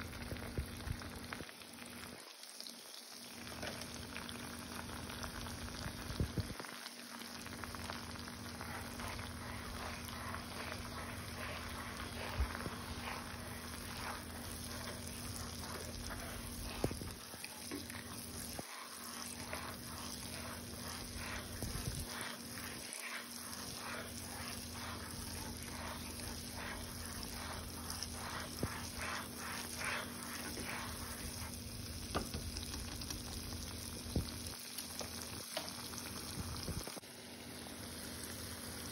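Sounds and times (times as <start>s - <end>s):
butter bubbling and sizzling: 0.0s - 38.9s.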